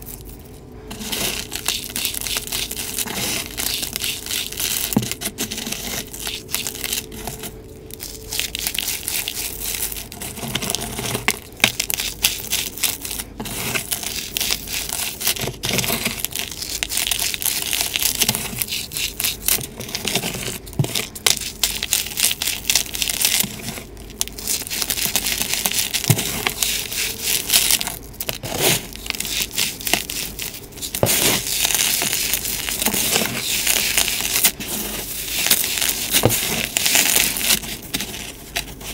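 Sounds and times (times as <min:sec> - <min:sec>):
chalk crumbling crunch: 0:00.0 - 0:38.9.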